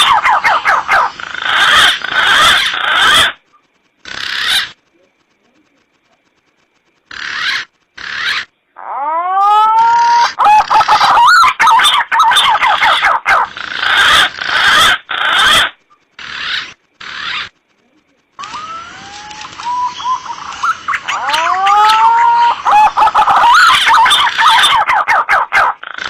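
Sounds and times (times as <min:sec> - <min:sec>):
pigeon rasping calls: 0:00.0 - 0:04.9, 0:07.0 - 0:17.7, 0:18.4 - 0:26.0
warbling bird calls: 0:00.0 - 0:26.0.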